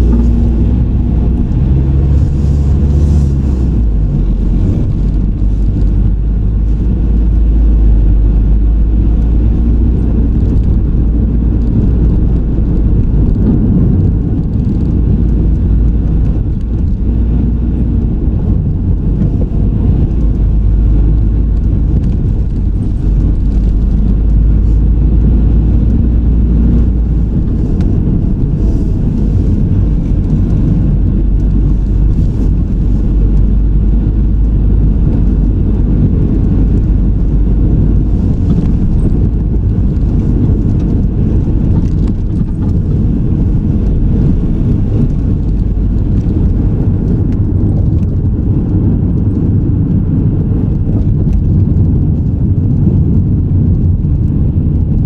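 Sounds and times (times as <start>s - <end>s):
car interior road rumble: 0.0s - 55.0s.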